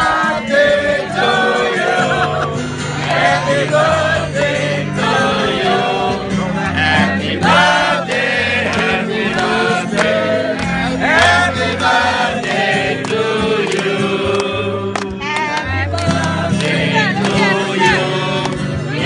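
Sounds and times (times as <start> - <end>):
group singing: 0.0 - 19.0.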